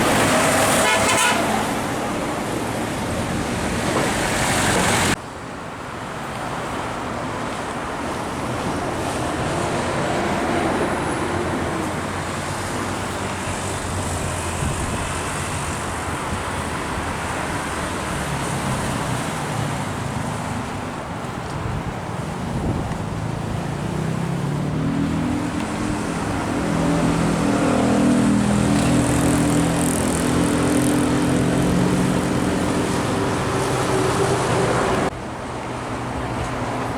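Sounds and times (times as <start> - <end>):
heavy vehicle engine hum: 0.0 - 36.9
road traffic passing: 0.0 - 36.9.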